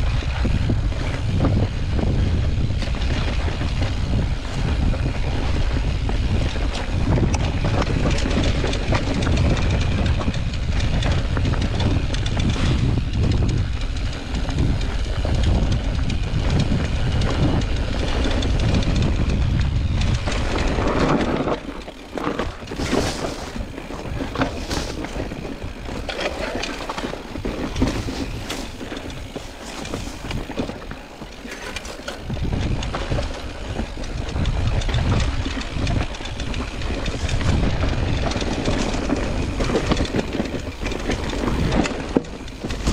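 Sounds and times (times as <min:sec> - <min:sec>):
bike rattling over rocks: 0:00.0 - 0:42.9
wind buffeting microphone: 0:00.0 - 0:42.9.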